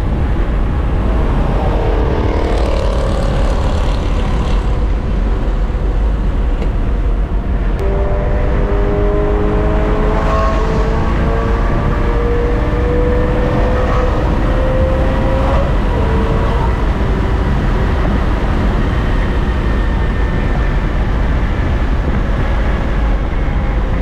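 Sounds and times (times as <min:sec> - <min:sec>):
tyre and road noise: 0:00.0 - 0:24.0.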